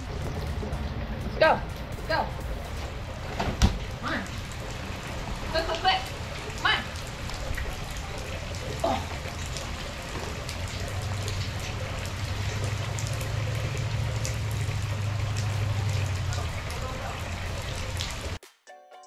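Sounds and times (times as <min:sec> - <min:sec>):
rain on brick pavers: 0:00.0 - 0:18.4.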